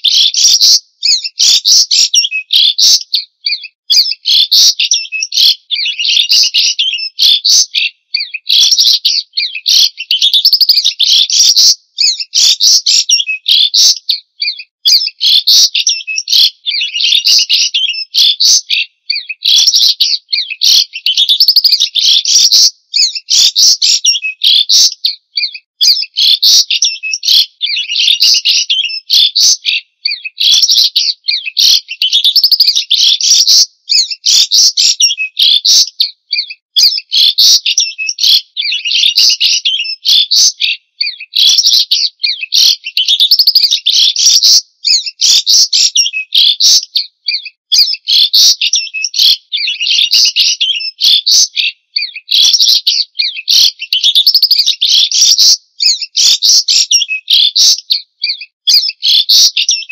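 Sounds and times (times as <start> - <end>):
bird singing whistles and chatter: 0.0 - 59.9.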